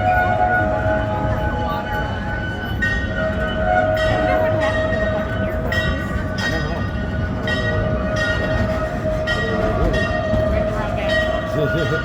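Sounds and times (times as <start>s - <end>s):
ride train rumbling on track: 0.0s - 12.0s.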